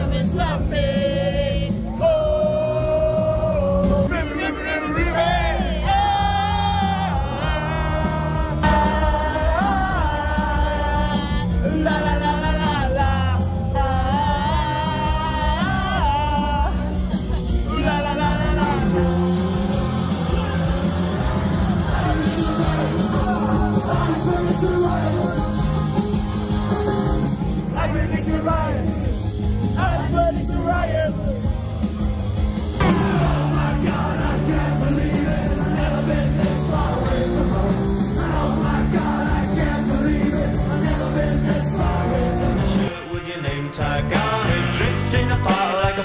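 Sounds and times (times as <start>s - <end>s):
crowd yelling: 0.0s - 46.0s
live rock music with singing: 0.0s - 46.0s.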